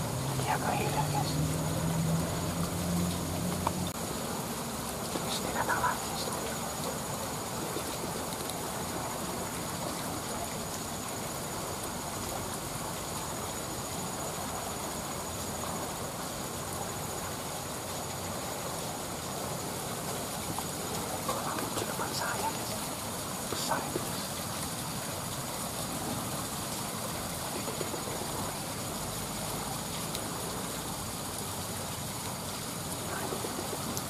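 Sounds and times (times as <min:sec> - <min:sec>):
fast-flowing river rushing: 0:00.0 - 0:34.0.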